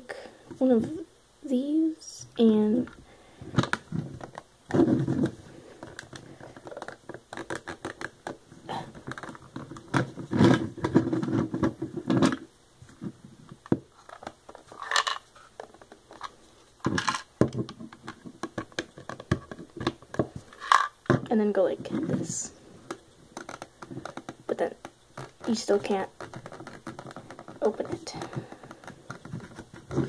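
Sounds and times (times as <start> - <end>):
plastic box rubbing: 2.8 - 30.0
plastic bricks clicking and scraping: 3.6 - 30.0.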